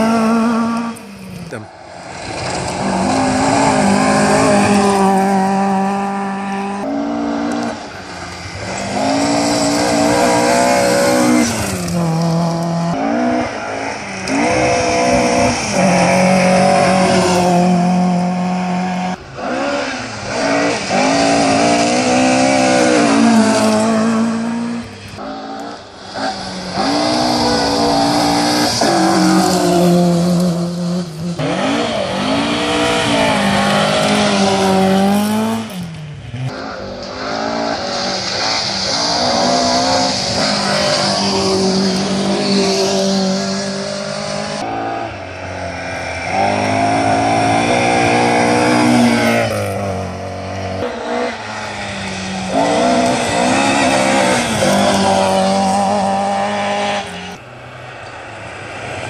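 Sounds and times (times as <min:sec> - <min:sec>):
rally cars passing at speed: 0:00.0 - 0:59.0.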